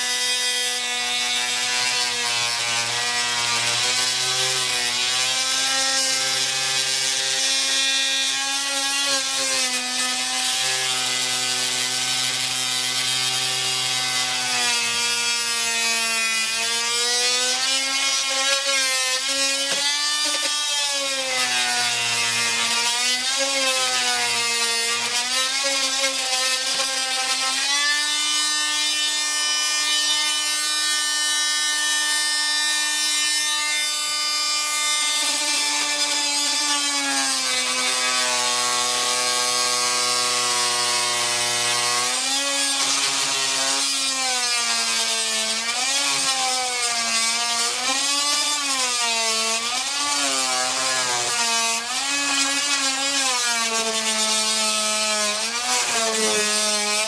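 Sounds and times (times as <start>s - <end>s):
oscillating multi-tool whining: 0.0s - 57.0s.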